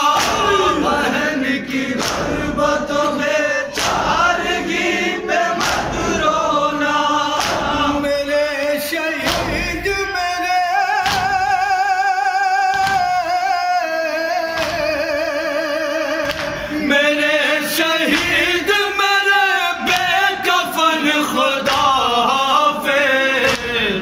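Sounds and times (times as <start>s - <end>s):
men singing in unison: 0.0s - 24.0s.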